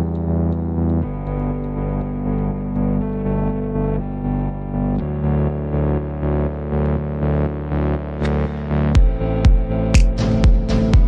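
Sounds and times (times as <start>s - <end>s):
pulsing synth chord: 0.0s - 11.0s.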